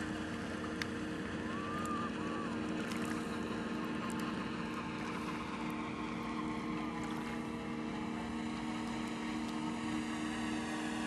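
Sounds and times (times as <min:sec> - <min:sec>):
model plane propellers droning: 0:00.0 - 0:11.0.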